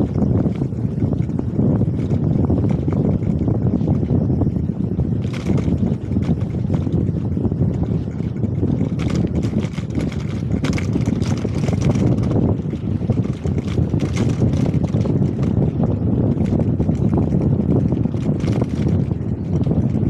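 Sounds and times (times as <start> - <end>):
small clicks and rattles: 0.0 - 4.6, 5.2 - 20.0
wind buffeting microphone: 0.0 - 20.0.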